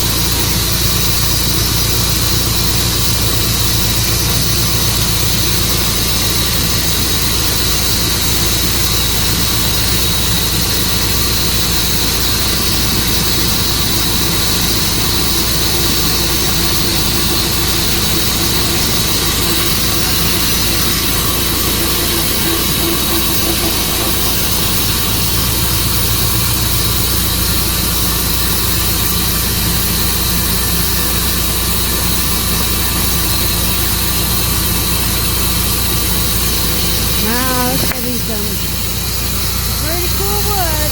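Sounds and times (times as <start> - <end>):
high saw whine: 0.0 - 40.9
sawmill engine hum: 0.0 - 40.9.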